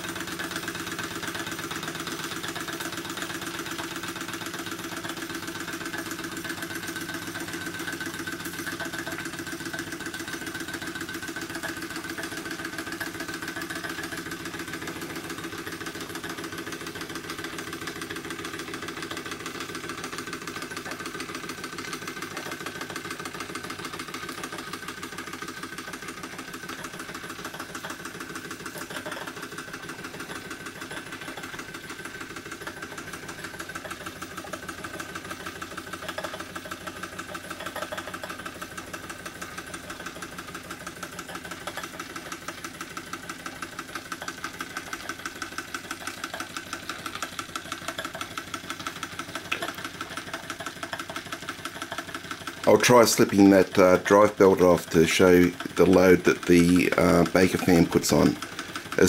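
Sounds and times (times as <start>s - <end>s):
toy steam engine chuffing: 0.0s - 59.0s.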